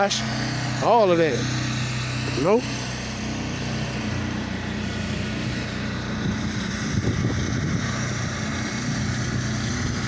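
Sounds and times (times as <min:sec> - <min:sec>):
pressure washer engine running: 0:00.0 - 0:10.0.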